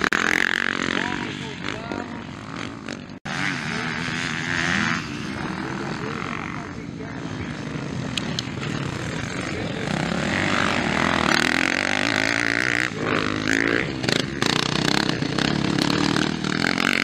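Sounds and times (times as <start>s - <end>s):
motocross bike engines racing past: 0.0s - 17.0s.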